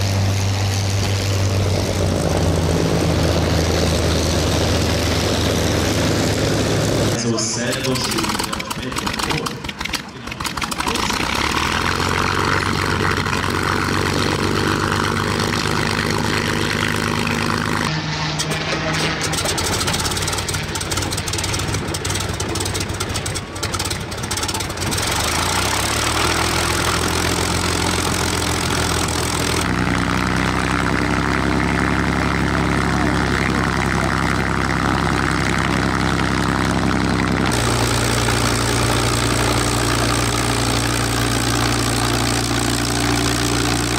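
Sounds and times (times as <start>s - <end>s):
propeller aircraft engine idling: 0.0s - 43.9s.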